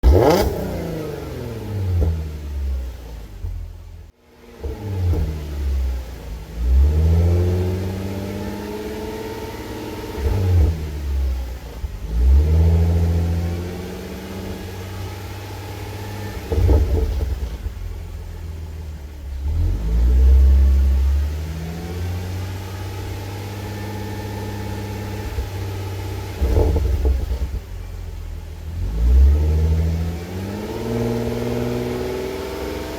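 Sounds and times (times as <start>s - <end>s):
car engine revving: 0.0s - 32.9s
exhaust crackles: 0.0s - 32.9s.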